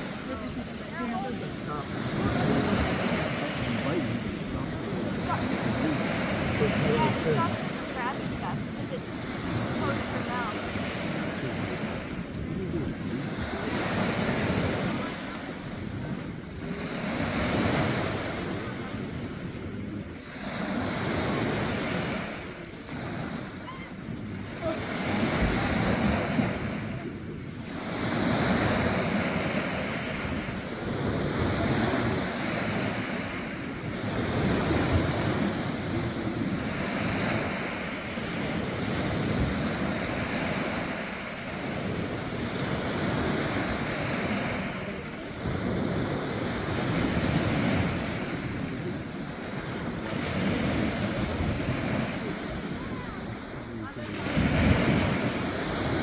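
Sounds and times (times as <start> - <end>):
small waves breaking on shore: 0.0 - 56.0
wind buffeting microphone: 0.0 - 56.0.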